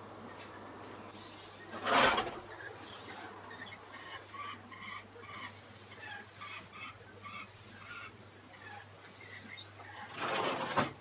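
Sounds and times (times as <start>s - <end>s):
birds chirping: 0.2s - 1.8s, 2.4s - 10.1s.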